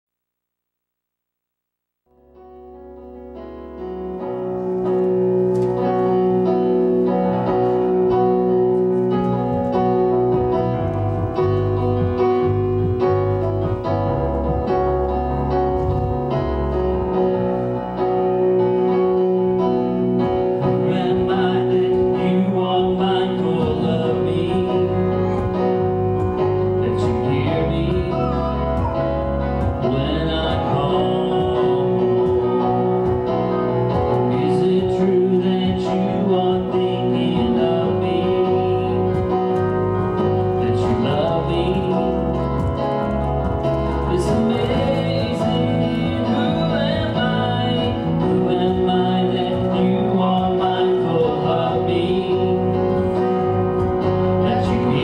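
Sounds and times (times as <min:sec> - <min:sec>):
keyboard playing held chords: 0:02.1 - 0:55.0.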